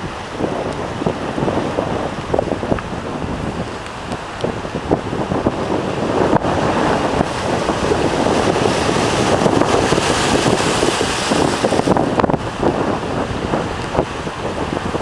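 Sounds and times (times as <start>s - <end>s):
storm waves breaking: 0.0s - 15.0s
wind buffeting microphone: 0.0s - 15.0s.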